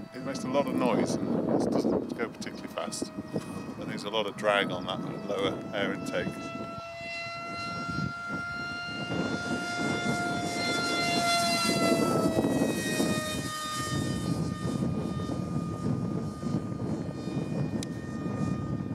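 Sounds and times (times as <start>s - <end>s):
model jet flying past: 0.0s - 18.9s.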